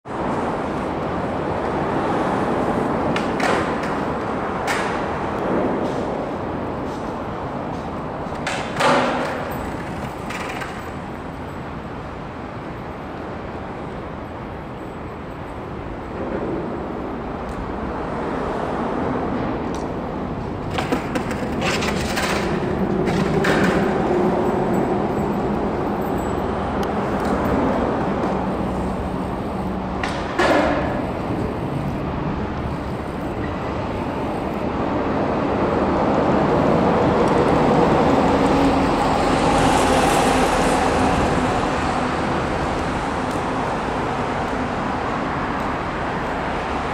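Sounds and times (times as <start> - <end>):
road traffic: 0.0 - 46.9.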